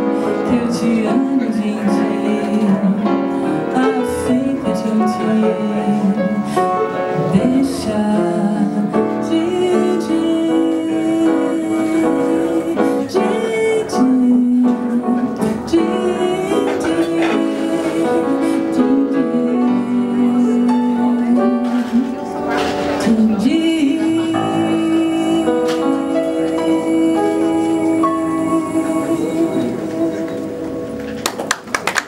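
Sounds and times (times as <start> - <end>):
woman singing ballad: 0.0 - 30.8
grand piano: 0.0 - 32.0.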